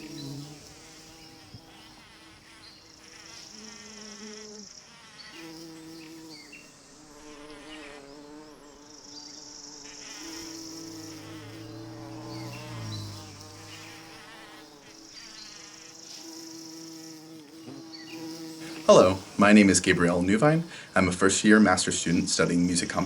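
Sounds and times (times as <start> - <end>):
bees buzzing: 0.0 - 23.0
high hiss: 0.0 - 23.0.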